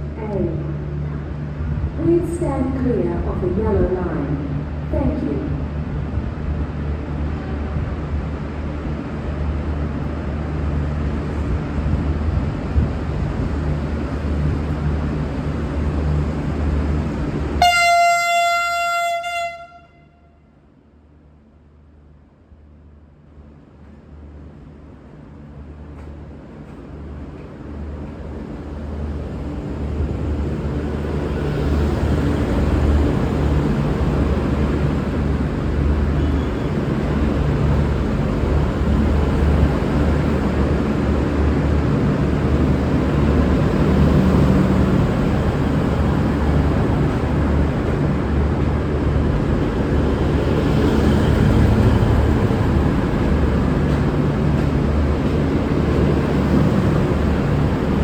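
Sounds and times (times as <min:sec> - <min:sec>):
train diesel engine rumble: 0:00.0 - 0:58.0.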